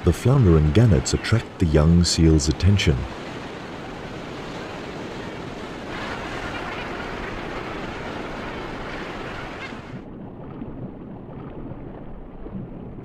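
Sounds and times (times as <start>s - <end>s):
sea water and surf rushing: 0.0s - 13.0s.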